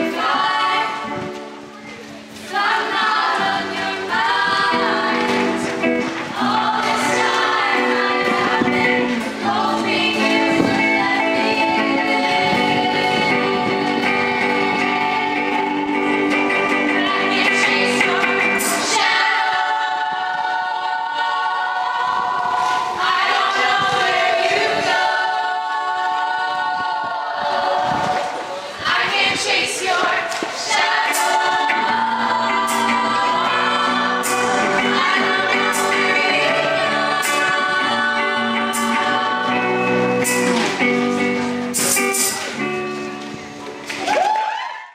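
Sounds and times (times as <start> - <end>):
girls singing in harmony: 0.0 - 1.7, 2.3 - 41.6.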